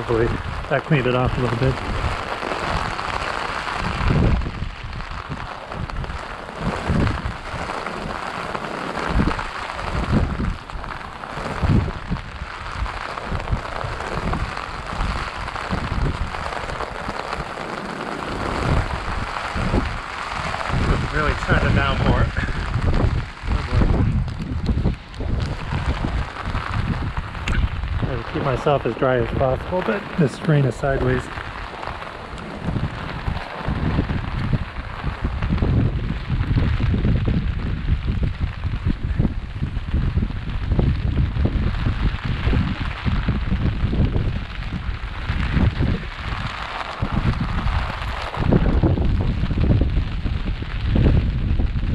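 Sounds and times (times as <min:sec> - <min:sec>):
heavy rain falling: 0:00.0 - 0:51.9
wind rumbling on microphone: 0:00.0 - 0:51.9.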